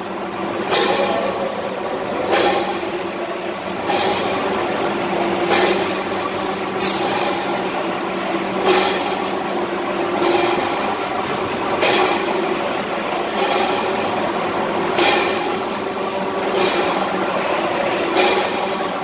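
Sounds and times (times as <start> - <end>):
canning machine humming: 0.0 - 19.0.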